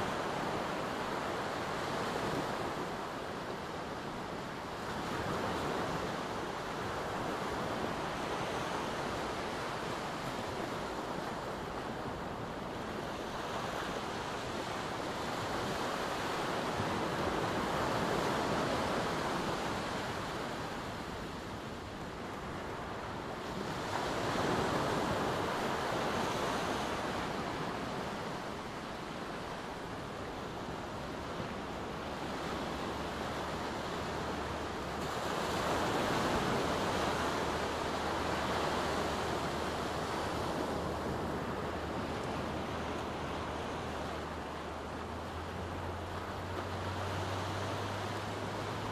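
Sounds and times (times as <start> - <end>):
small waves breaking on beach: 0.0 - 48.9.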